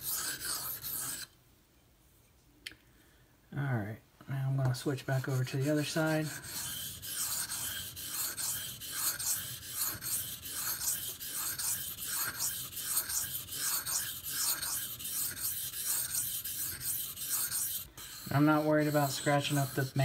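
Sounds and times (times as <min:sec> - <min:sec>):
knife scraping on whetstone: 0:00.0 - 0:01.3, 0:05.1 - 0:20.0.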